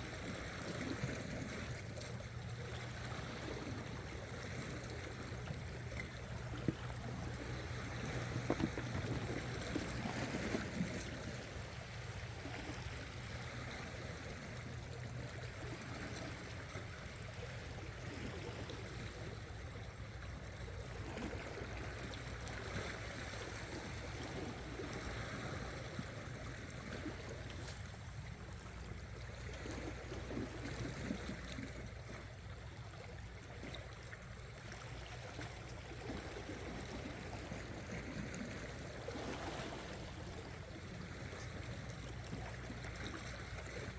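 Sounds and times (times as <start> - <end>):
water sloshing against rocks: 0.0 - 20.1, 20.7 - 43.9.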